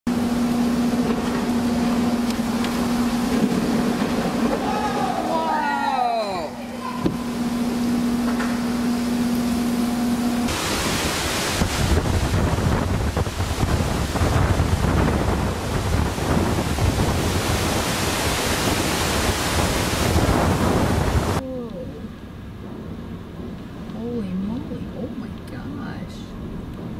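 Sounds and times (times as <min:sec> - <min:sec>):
steady hum: 0:00.1 - 0:26.9
wind and rain rushing on microphone: 0:00.1 - 0:26.9.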